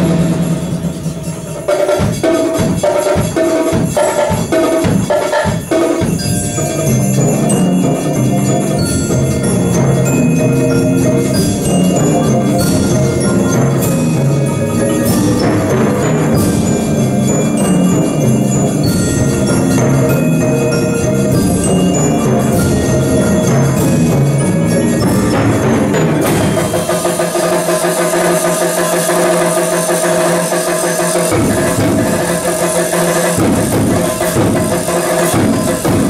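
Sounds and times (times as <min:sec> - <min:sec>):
bass percussion: 0:00.0 - 0:36.0
marimbas playing: 0:00.0 - 0:36.0
tubular bells ringing: 0:00.0 - 0:36.0.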